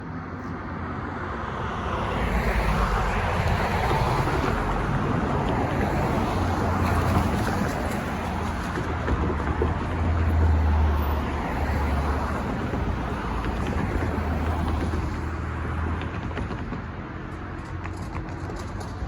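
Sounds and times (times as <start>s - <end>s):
diesel locomotives passing: 0.4s - 19.0s.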